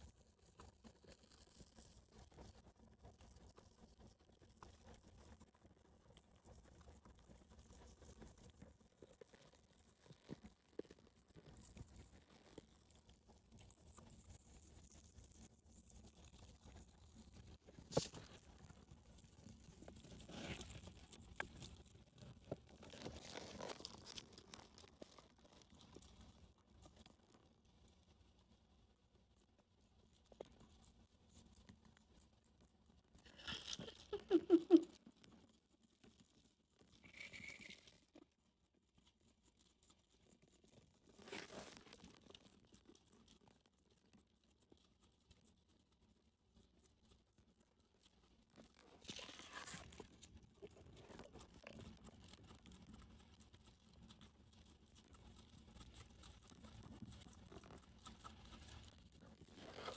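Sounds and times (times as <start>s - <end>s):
guinea pig chewing leaf: 0.0s - 59.9s
soft nibbling ticks: 0.0s - 59.9s.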